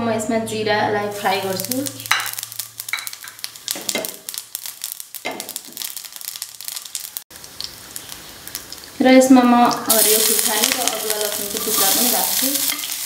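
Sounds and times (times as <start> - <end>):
seeds sizzling in hot oil: 1.1 - 13.0.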